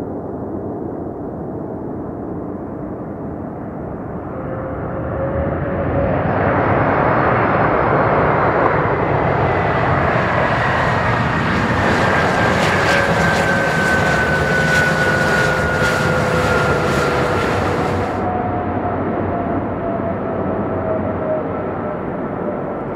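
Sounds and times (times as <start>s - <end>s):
jet airliner passing close: 0.1s - 22.9s.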